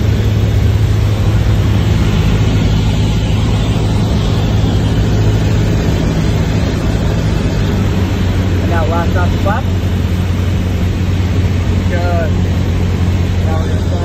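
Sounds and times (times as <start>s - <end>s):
airplane engine droning: 0.0s - 14.0s
rushing air noise: 0.0s - 14.0s.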